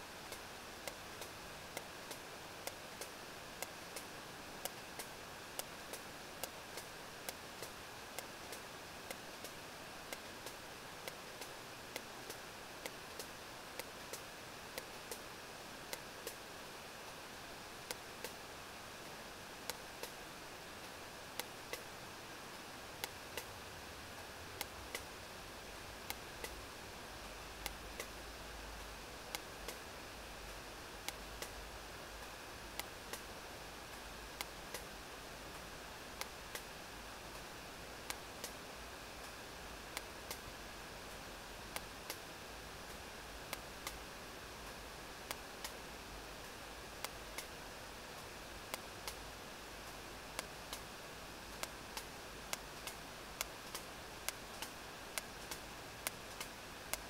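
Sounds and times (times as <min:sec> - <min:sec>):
sea noise hiss: 0:00.0 - 0:57.0.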